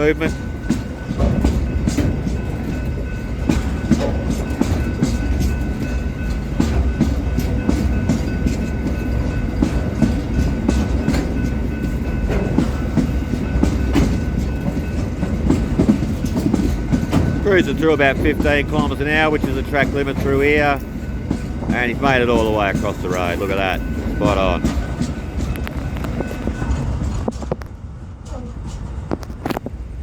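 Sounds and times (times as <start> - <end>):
freight train rumbling past: 0.0 - 30.0
wheels clunking on rails: 0.0 - 30.0.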